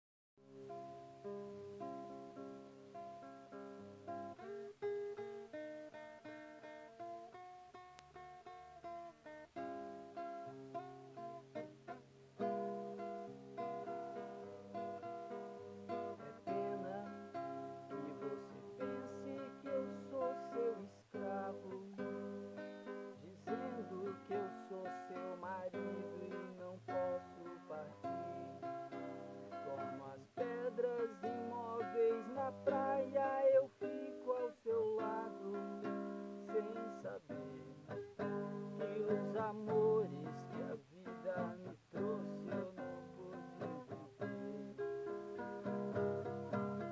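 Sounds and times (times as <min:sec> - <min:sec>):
acoustic guitar strumming chords: 0:00.5 - 0:46.9.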